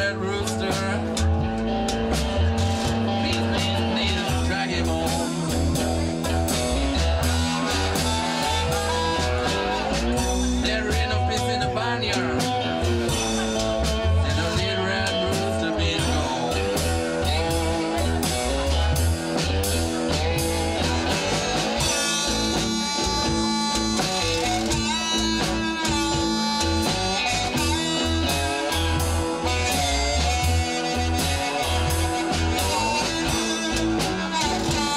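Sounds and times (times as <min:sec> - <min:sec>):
amplified harmonica: 0:00.0 - 0:34.9
drums: 0:00.0 - 0:34.9
guitars: 0:00.0 - 0:34.9.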